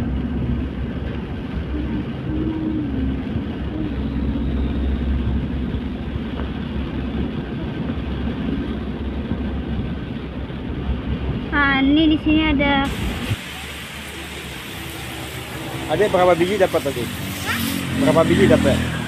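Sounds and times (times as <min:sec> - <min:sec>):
vehicle rumble on wet road: 0:00.0 - 0:19.0.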